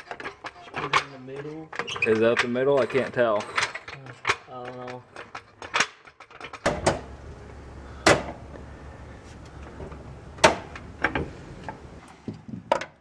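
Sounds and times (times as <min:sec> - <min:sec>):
floor jack metal clunks: 0:00.0 - 0:07.2, 0:08.0 - 0:08.5, 0:09.6 - 0:13.0.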